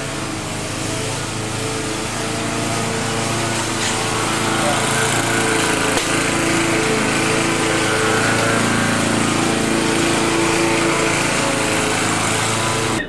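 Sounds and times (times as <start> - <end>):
small engine buzzing hum: 0.0 - 13.0.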